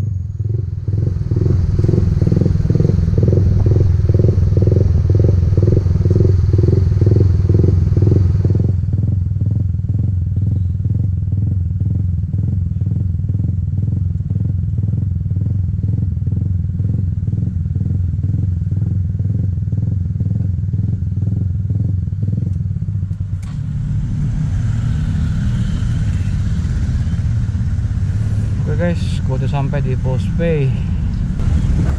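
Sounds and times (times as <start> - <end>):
motorcycle engine throbbing: 0.0 - 31.9.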